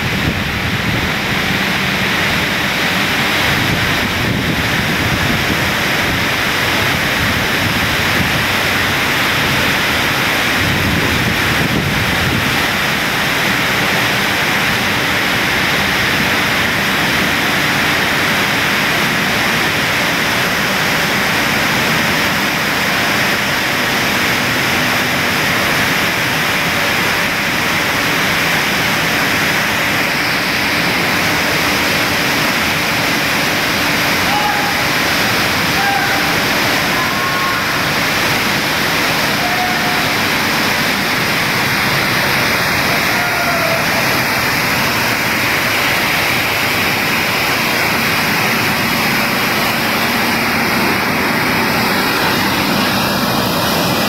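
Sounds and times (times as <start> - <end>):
mill machinery roar: 0.0 - 54.0.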